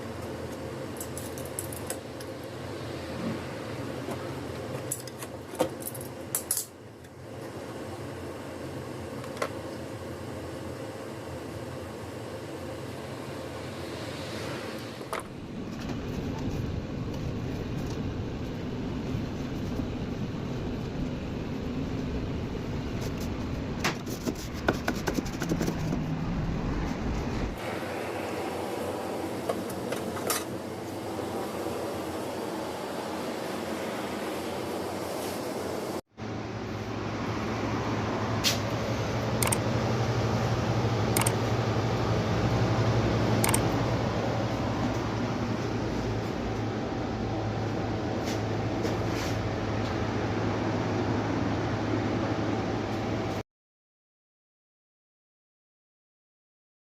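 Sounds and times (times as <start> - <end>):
mechanical running hum: 0.0 - 53.4.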